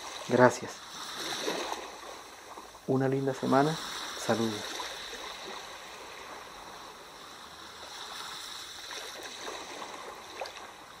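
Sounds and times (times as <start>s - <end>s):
flowing water gurgling: 0.0s - 11.0s.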